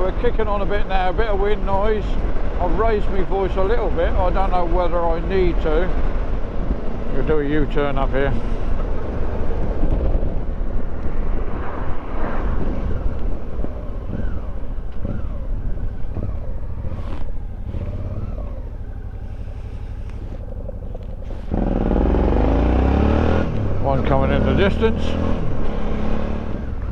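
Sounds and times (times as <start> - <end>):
wind noise on microphone: 0.0 - 24.1
motorcycle engine: 4.8 - 26.9.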